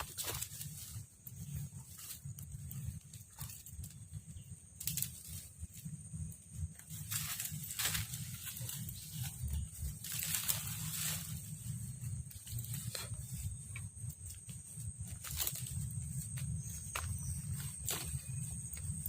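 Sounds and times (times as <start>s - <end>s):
footsteps in undergrowth: 0.0s - 19.0s
rustling brush: 0.0s - 19.0s
steady low rumble: 0.0s - 19.0s.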